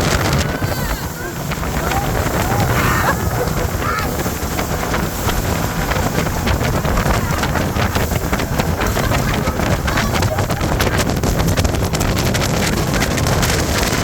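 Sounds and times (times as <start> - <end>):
rushing water: 0.0 - 14.0
speedboat engine: 0.0 - 14.0
wind buffeting microphone: 0.0 - 14.0.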